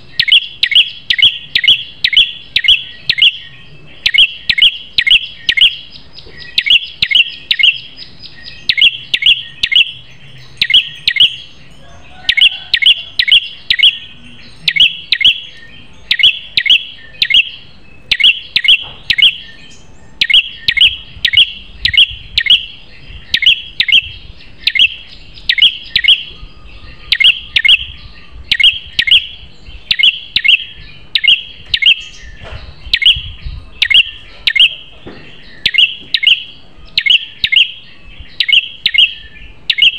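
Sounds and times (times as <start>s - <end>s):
tailorbird calling: 0.0s - 11.5s, 12.2s - 19.6s, 20.2s - 39.9s.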